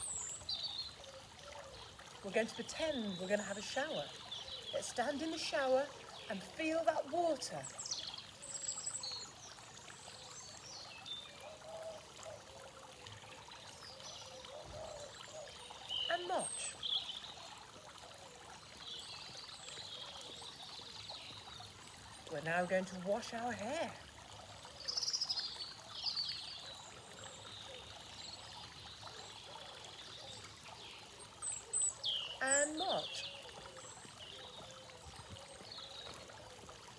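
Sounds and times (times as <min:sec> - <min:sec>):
fountain water trickling: 0:00.0 - 0:36.9.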